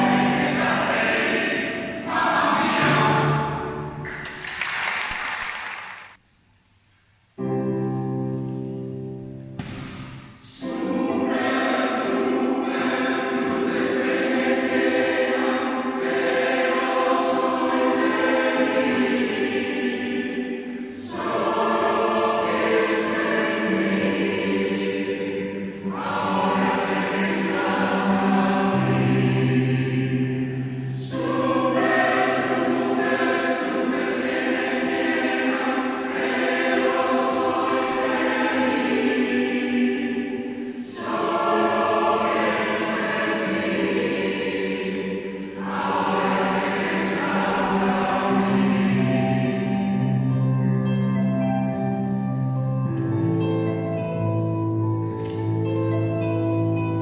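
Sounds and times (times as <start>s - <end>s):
choir singing: 0.0s - 5.0s, 10.4s - 57.0s.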